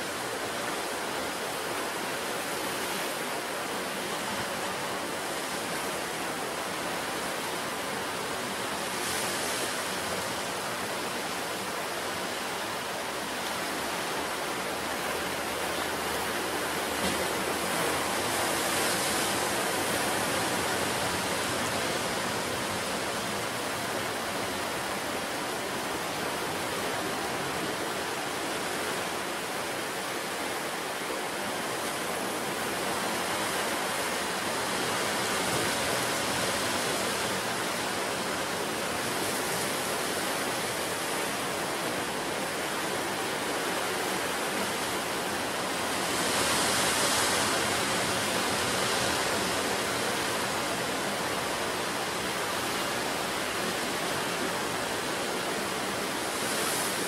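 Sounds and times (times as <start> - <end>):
sea surf washing on shore: 0.0 - 57.0.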